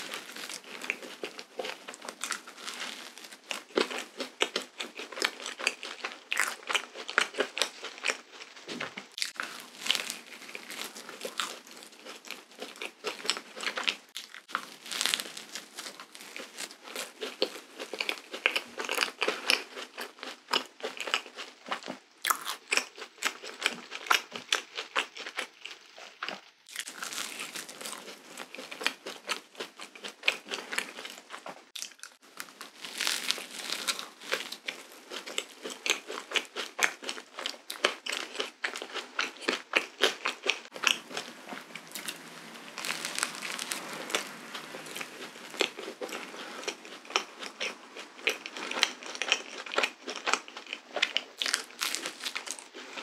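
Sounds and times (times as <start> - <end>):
person chewing with soft crunches: 0.0 - 53.0.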